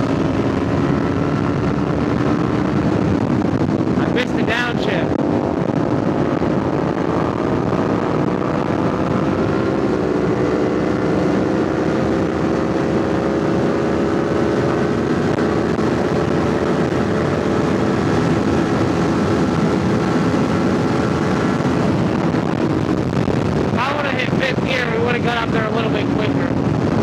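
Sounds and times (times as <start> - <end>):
motorcycle engine accelerating: 0.0 - 4.3, 5.0 - 27.0
wind noise on microphone: 0.0 - 27.0.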